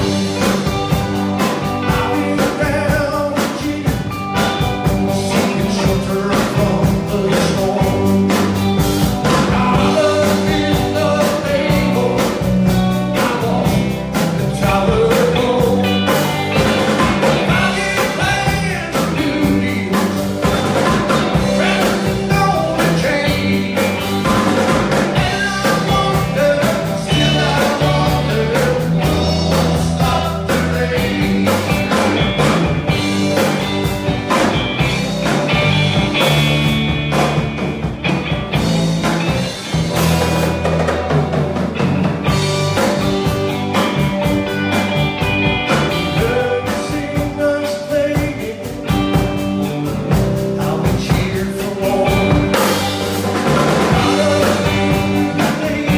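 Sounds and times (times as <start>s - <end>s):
bass guitar: 0.0s - 55.9s
driving drum beat: 0.0s - 55.9s
electric guitars: 0.0s - 55.9s.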